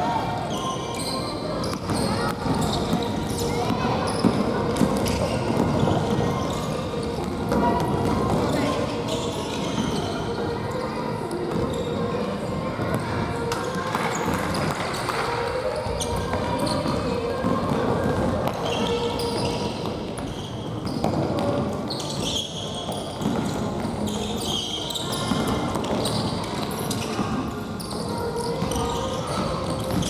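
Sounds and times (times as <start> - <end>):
shoe squeaks on floor: 0.0 - 30.0.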